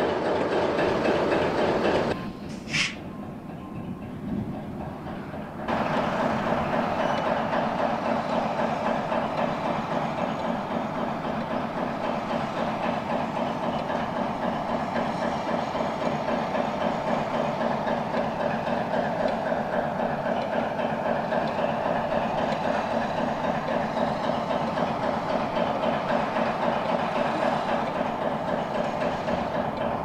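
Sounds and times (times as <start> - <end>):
wagon wheels clacking over rail joints: 0.0 - 2.6, 3.8 - 30.0
diesel locomotive engine running: 0.0 - 30.0.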